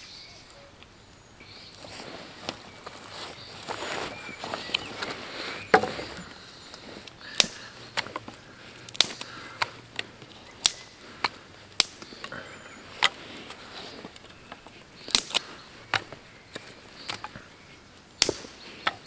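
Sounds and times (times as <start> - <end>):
dry sticks snapping: 1.6 - 19.0.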